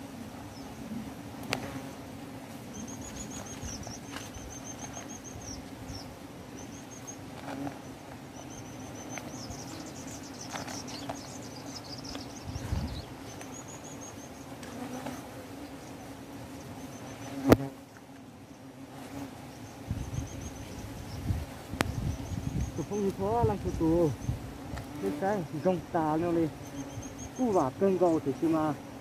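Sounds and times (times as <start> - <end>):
wasps buzzing: 0.0 - 29.0
leaves and twigs rustling: 2.4 - 18.3, 18.9 - 29.0.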